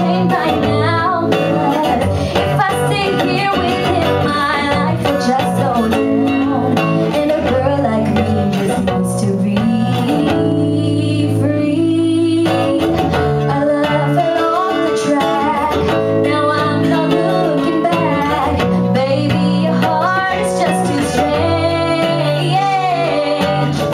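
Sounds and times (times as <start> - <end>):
acoustic guitar: 0.0 - 23.9
woman singing into microphone: 0.0 - 23.9.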